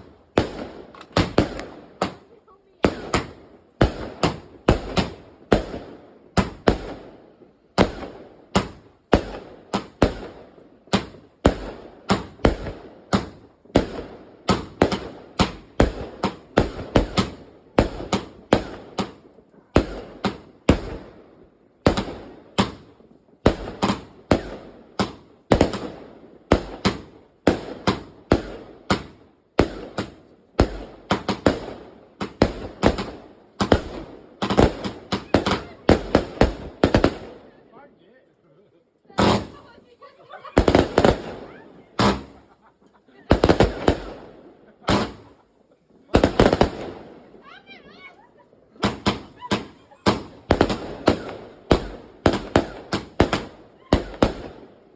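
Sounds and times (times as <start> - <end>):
firework sharp bangs: 0.0 - 21.2, 21.8 - 37.6, 39.1 - 45.5, 46.1 - 47.4, 48.7 - 54.9.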